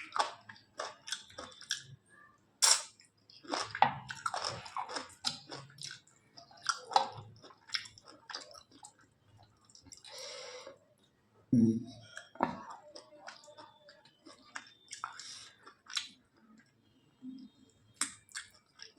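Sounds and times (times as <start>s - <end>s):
chewing with wet mouth clicks: 0.0s - 2.0s, 2.6s - 10.2s, 12.0s - 18.9s.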